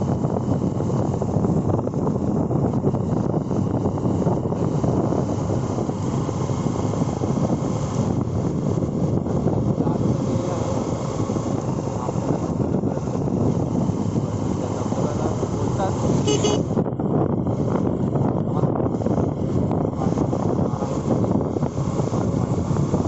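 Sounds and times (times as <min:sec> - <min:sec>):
motorcycle engine running: 0:00.0 - 0:23.0
wind rushing on microphone: 0:00.0 - 0:23.0.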